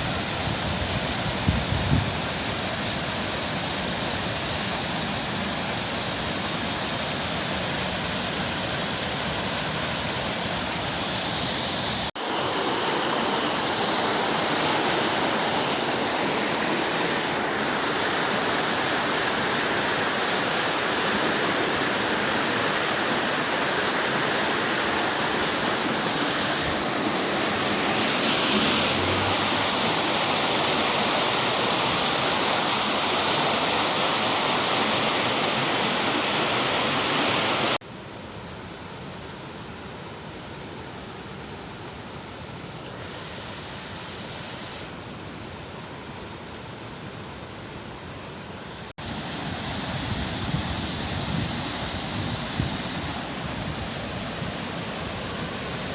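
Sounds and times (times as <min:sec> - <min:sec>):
river flowing: 0:00.0 - 0:55.9.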